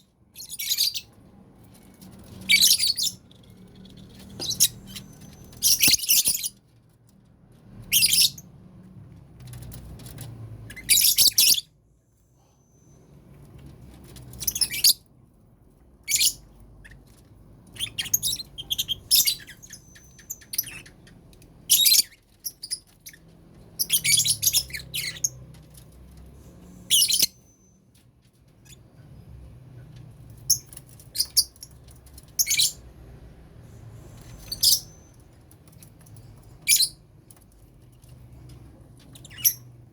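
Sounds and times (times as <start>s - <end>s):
lovebirds chirping and squawking: 0.3s - 6.9s, 7.6s - 11.8s, 12.4s - 15.1s, 15.7s - 29.3s, 30.1s - 33.1s, 33.8s - 39.9s.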